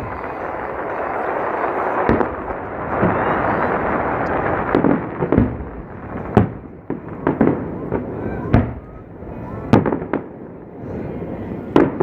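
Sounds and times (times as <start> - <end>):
fireworks booms: 0.0 - 12.0
fireworks crackling: 0.0 - 12.0.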